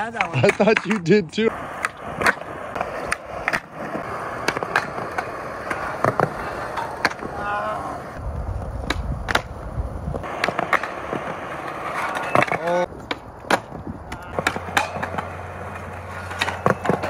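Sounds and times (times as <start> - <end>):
skateboard tail clacks: 0.0 - 17.0
skateboard wheels rolling on concrete: 0.0 - 17.0.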